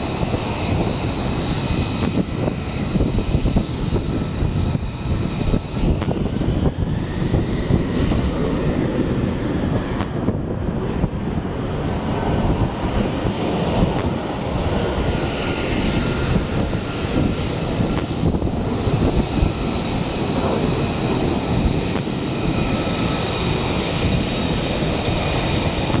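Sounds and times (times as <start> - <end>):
jet engine rumble and whine: 0.0 - 26.0.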